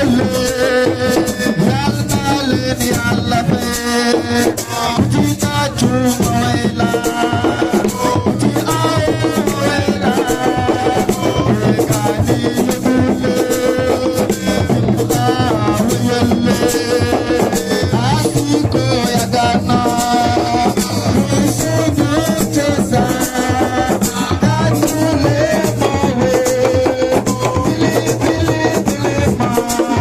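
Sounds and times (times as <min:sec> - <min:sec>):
driving drums: 0:00.0 - 0:30.0
live band music: 0:00.0 - 0:30.0.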